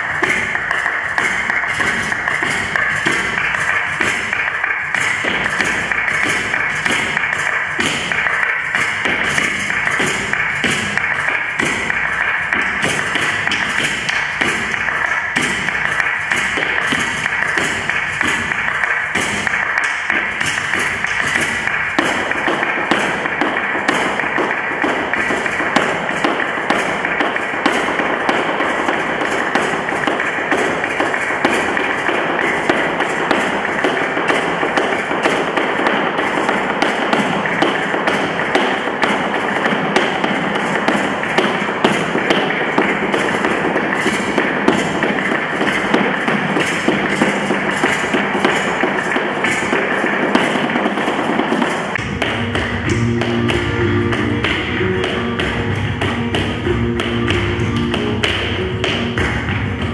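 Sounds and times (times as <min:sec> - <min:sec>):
shoes tapping on hard floor: 0:00.0 - 0:59.9.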